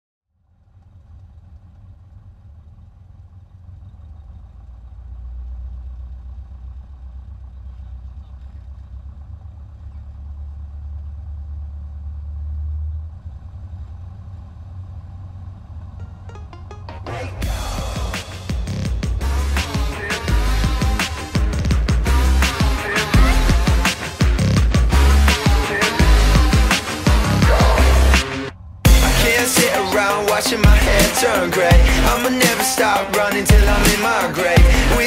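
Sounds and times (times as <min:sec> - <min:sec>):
propeller plane engine drone: 0:00.3 - 0:35.0.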